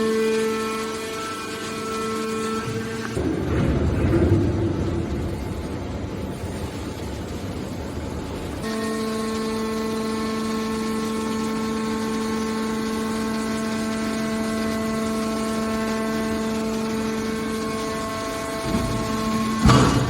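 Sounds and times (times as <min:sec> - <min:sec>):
scrap baler pump humming: 0:00.0 - 0:20.0.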